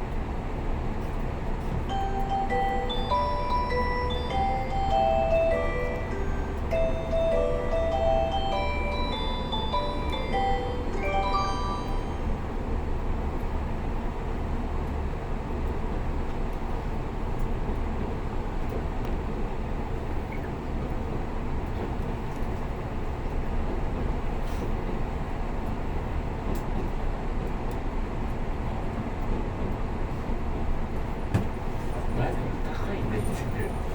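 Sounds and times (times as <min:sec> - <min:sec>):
train cabin low rumble: 0:00.0 - 0:33.9.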